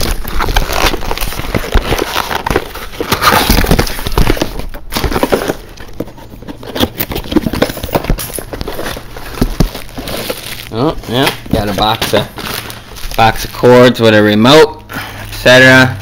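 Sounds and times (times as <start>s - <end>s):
packaging rustling and tearing: 0.0s - 14.5s.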